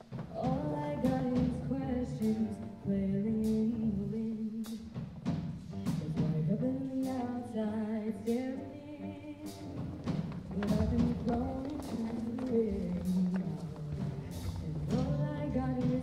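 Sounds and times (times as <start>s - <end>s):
live band: 0.0s - 16.0s.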